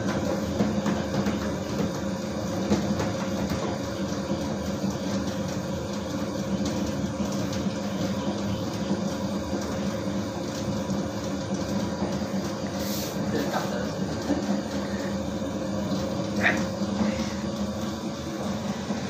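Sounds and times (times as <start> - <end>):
dough mixer humming and rumbling: 0.0 - 19.0.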